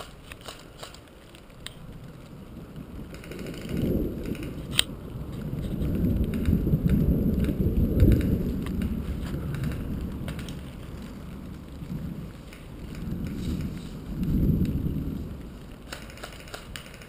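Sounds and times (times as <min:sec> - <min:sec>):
faint crackles: 0:00.0 - 0:17.0
wind buffeting microphone: 0:00.0 - 0:17.0.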